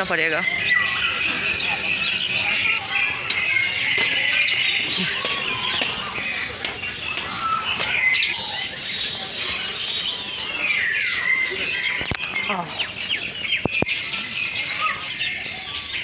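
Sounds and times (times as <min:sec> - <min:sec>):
many birds chirping: 0:00.0 - 0:16.0.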